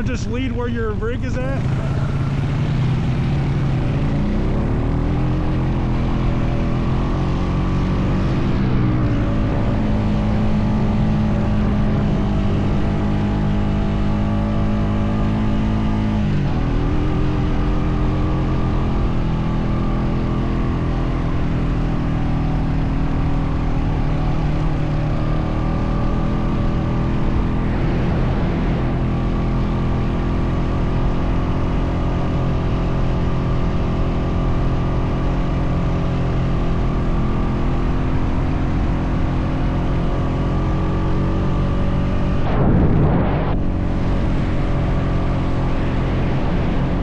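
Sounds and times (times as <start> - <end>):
atv engine pulling: 0.0 - 41.4.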